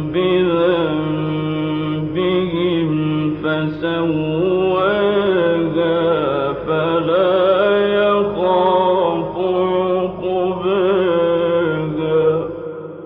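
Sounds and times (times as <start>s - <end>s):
man reciting melodically: 0.0s - 12.6s.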